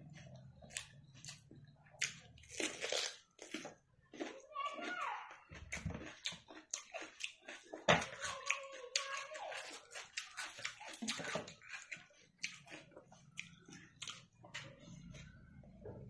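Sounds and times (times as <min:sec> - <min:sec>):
person chewing wetly: 0:00.0 - 0:15.9.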